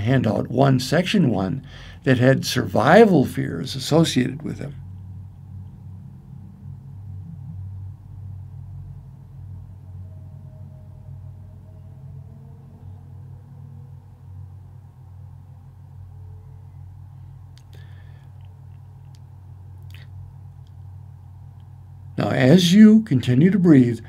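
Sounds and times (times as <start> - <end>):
faint drifting tones: 0.0 - 24.0
steady low hum: 0.0 - 24.0.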